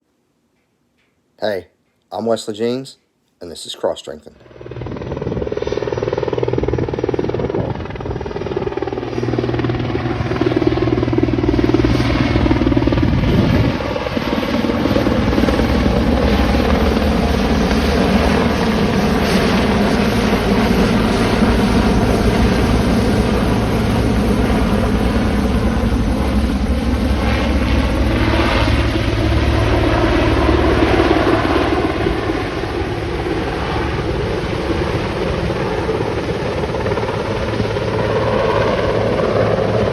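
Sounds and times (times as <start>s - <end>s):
helicopter rotor beating: 3.4s - 39.9s
helicopter engine whine: 4.4s - 39.9s.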